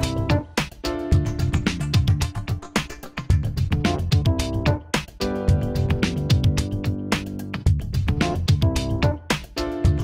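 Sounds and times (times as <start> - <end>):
upbeat band music: 0.0 - 10.0.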